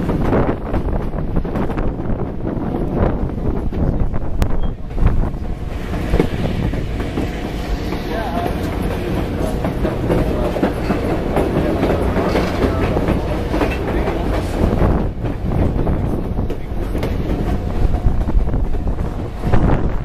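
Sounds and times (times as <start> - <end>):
wheels clicking over rail joints: 0.0 - 19.7
train rumble and rattle: 0.0 - 20.0.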